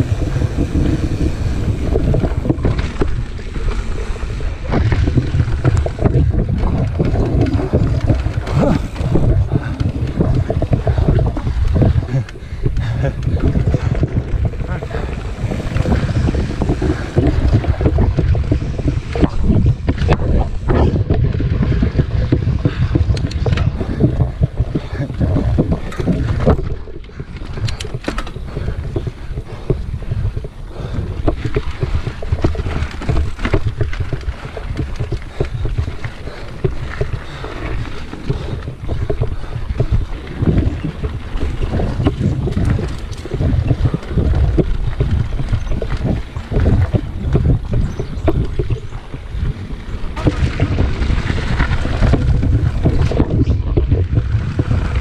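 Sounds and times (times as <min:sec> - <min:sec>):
bike rattling over bumps: 0:00.0 - 0:55.0
bike tyre noise: 0:00.0 - 0:55.0
wind buffeting microphone: 0:00.0 - 0:55.0.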